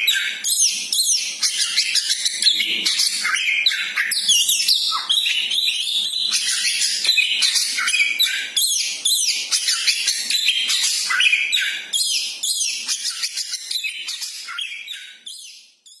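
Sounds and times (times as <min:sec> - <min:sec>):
bird chirping and whistling: 0:00.0 - 0:16.0.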